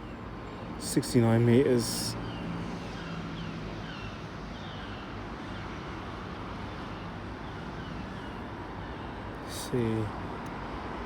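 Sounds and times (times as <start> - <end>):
distant road traffic: 0.0 - 11.0.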